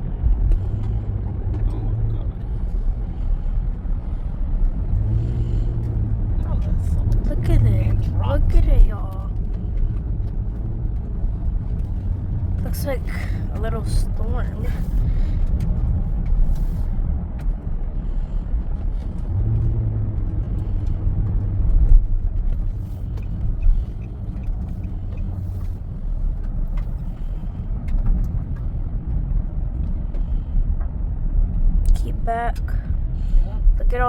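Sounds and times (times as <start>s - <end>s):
car road and engine rumble: 0.0s - 34.0s
low steady hum: 0.0s - 34.0s.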